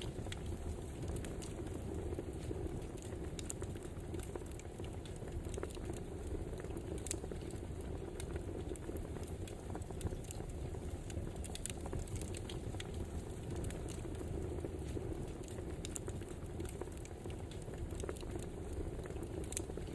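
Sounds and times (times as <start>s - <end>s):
wood fire crackling and popping: 0.0s - 19.9s.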